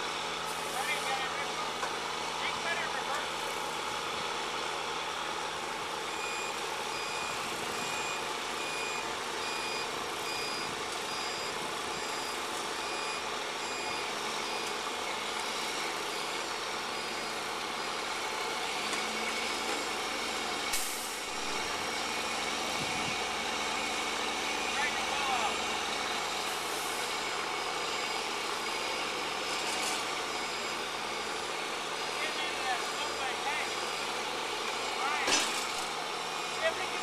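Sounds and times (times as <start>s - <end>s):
truck engine running: 0.0s - 37.0s
truck reversing alarm beeping: 0.0s - 37.0s.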